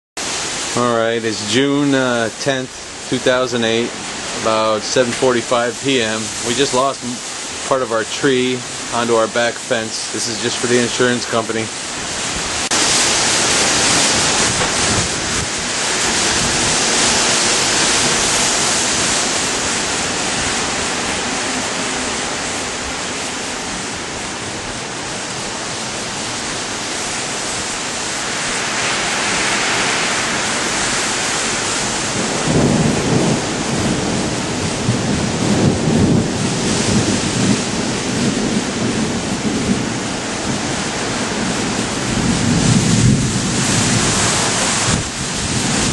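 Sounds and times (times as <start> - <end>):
heavy rain pouring: 0.2 - 45.9.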